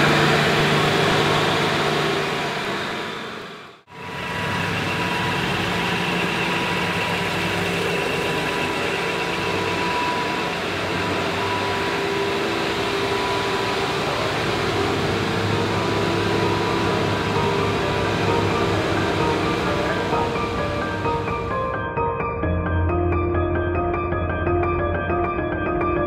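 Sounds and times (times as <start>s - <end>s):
floor grinder grinding concrete: 0.0s - 21.6s.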